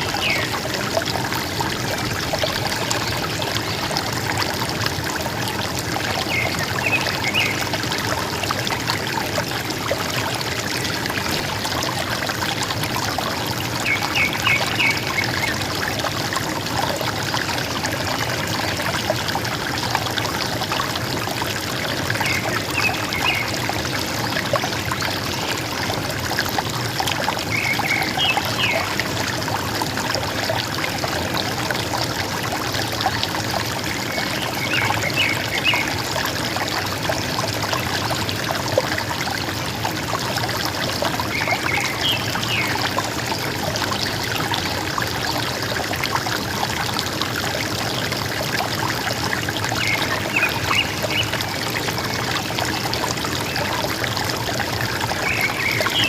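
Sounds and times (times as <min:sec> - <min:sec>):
river water gurgling: 0:00.0 - 0:56.0.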